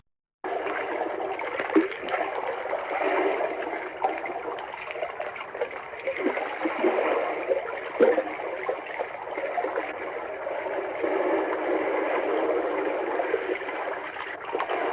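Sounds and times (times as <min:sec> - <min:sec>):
bubbling plops: 0:00.5 - 0:14.9
water running and gurgling: 0:00.5 - 0:14.9.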